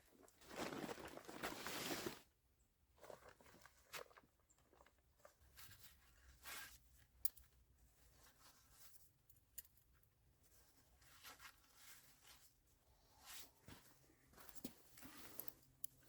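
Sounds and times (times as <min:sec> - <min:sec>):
rustling of nylon tent parts: 0:00.0 - 0:16.0.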